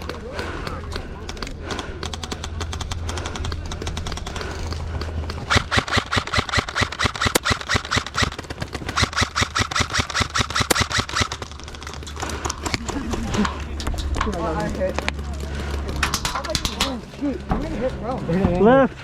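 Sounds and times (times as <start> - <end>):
airsoft gun full auto rattle: 0.0 - 15.1, 15.9 - 17.0
faint scattered airsoft fire: 0.0 - 17.0.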